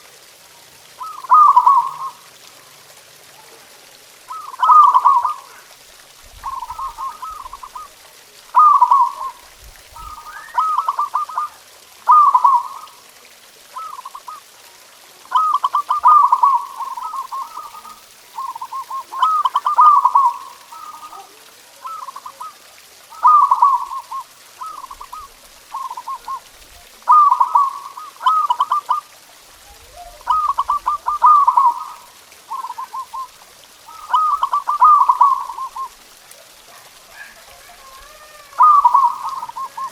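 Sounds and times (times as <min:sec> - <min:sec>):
dove cooing: 0:00.9 - 0:02.4, 0:03.3 - 0:05.8, 0:06.4 - 0:13.1, 0:13.7 - 0:14.6, 0:15.2 - 0:39.9.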